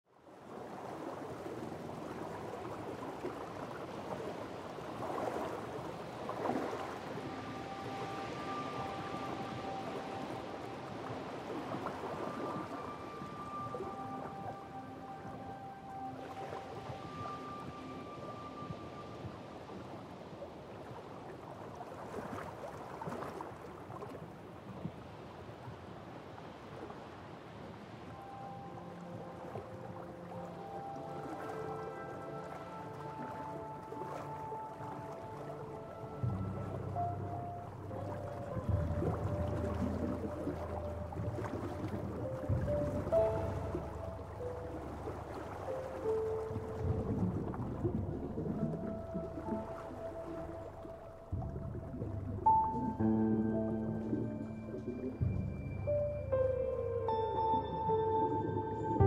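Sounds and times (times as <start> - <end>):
sea water rushing: 0.2 - 59.0
ocean waves washing: 0.3 - 59.0.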